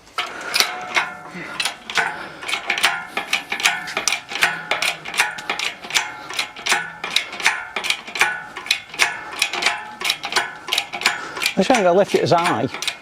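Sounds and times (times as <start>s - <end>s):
hydraulic jack clicking: 0.0s - 13.0s.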